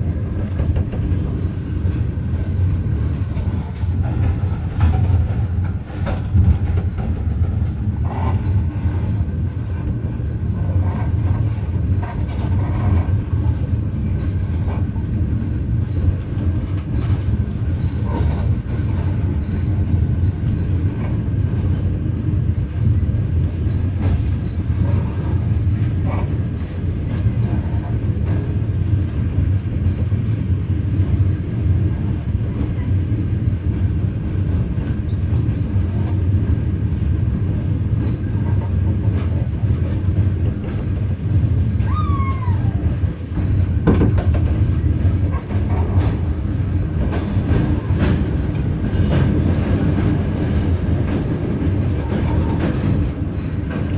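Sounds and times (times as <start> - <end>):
train rumbling on track: 0.0 - 53.9.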